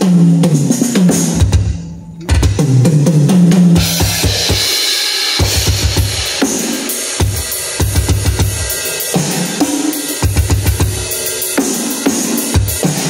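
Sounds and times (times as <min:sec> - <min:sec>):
drum fills on toms: 0:00.0 - 0:13.0
rapid bass drum strokes: 0:00.0 - 0:13.0.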